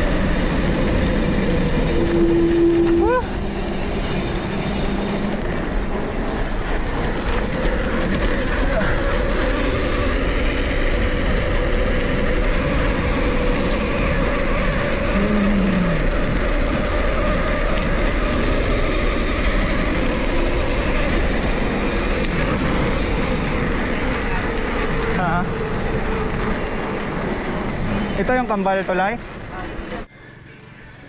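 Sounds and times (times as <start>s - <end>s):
bike tyre noise: 0.0s - 30.1s.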